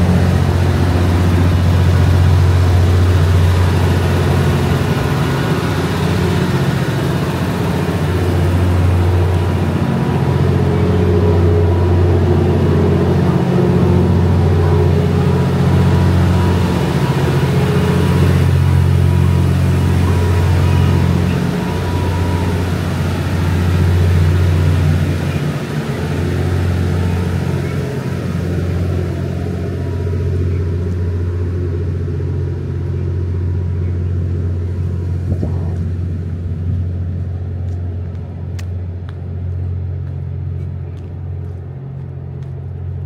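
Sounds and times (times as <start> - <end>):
train diesel generators idling: 0.0 - 43.0.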